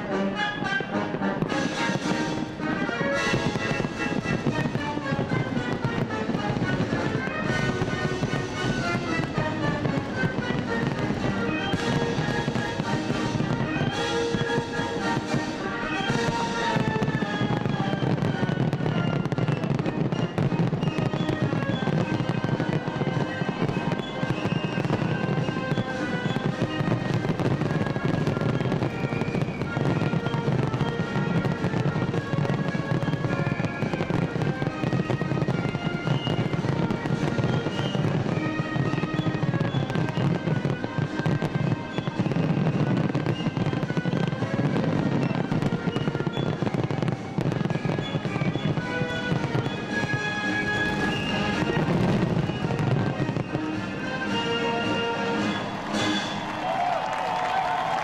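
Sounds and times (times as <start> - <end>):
fireworks bursting and crackling: 0.0 - 58.0
music playing: 0.0 - 58.0.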